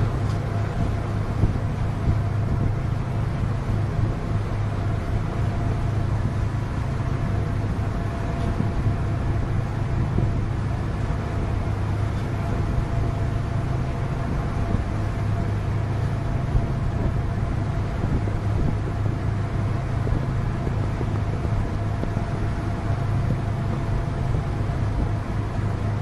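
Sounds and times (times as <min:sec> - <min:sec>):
boat engines droning: 0:00.0 - 0:26.0
seawater washing across steel deck: 0:00.0 - 0:26.0
wind on microphone: 0:00.0 - 0:26.0.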